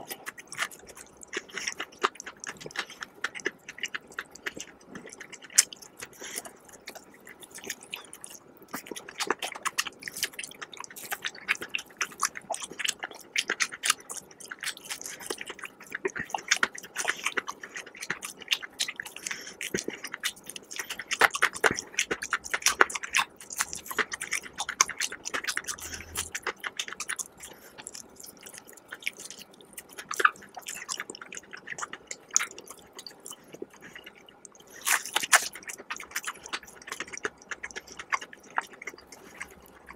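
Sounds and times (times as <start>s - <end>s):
person crunching fried chicken: 0.1s - 39.9s.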